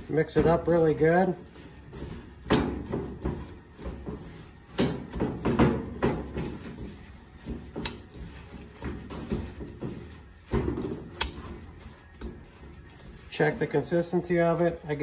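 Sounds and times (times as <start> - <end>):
hand squelching wet food mash: 0.0 - 15.0.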